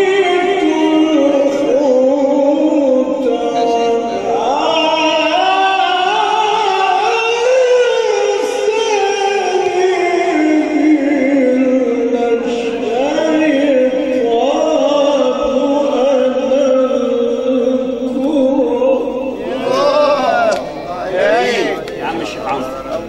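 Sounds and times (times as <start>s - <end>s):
man chanting solo into microphone: 0.0s - 23.0s.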